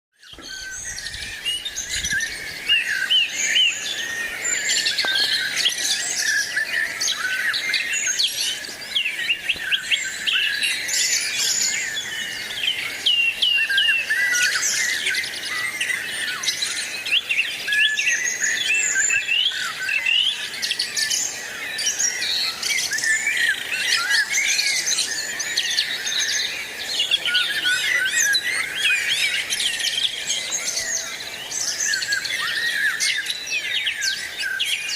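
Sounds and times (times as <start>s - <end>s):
flock of small birds chirping: 0.1s - 34.9s.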